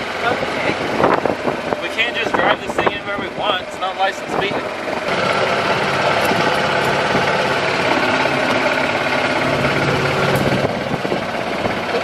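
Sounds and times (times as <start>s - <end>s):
golf cart engine running: 0.0s - 12.0s.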